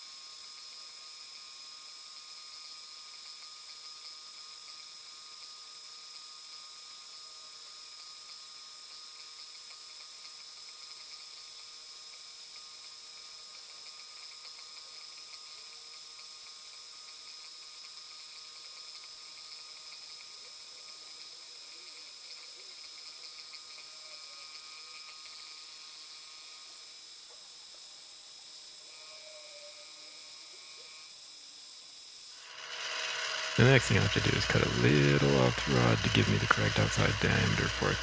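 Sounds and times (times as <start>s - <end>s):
milling spindle whine: 0.0s - 38.0s.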